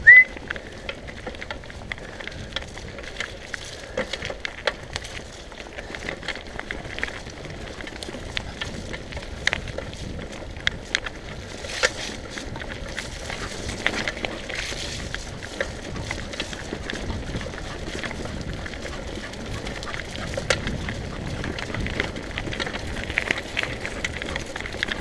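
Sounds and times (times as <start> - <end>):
bike tyres rumbling on gravel: 0.2 - 25.0
clicks and rattles over stones: 0.4 - 25.0.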